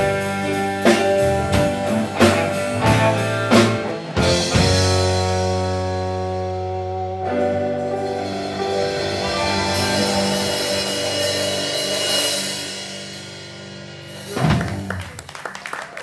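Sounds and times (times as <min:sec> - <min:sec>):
rock band holding a chord: 0:00.0 - 0:15.4.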